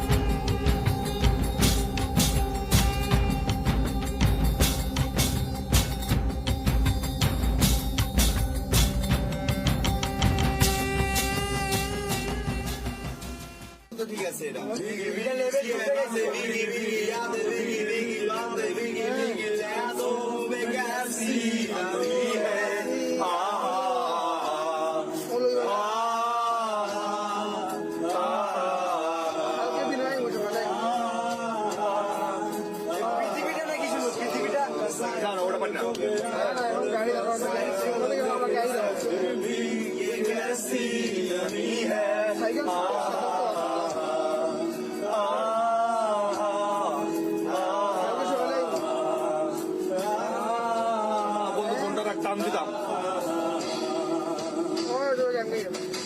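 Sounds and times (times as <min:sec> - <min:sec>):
men singing chant-like song: 0:00.0 - 0:07.8, 0:14.6 - 0:56.0.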